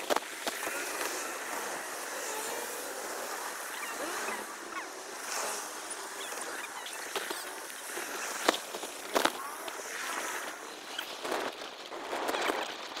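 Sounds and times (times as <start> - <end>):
bicycle road noise: 0.0 - 13.0.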